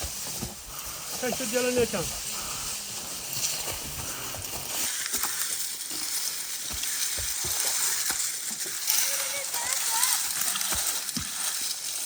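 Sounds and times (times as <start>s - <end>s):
oil crackling: 0.0s - 12.0s.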